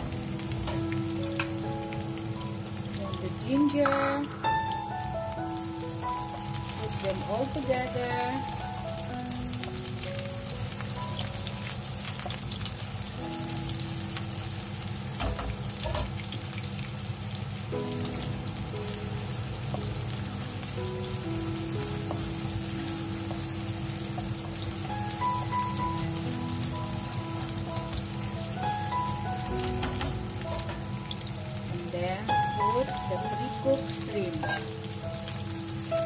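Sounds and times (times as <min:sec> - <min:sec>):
food sizzling in oil: 0:00.0 - 0:36.0
soft background music: 0:00.0 - 0:36.0.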